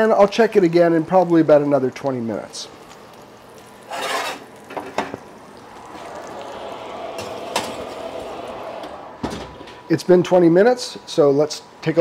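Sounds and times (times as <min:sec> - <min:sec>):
convection oven whirring: 0:00.0 - 0:12.0.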